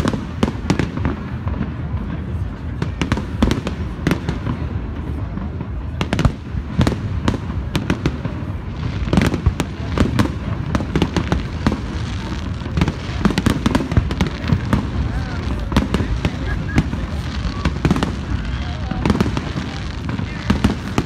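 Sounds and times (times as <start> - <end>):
fireworks bangs and crackling pops: 0.0 - 21.0.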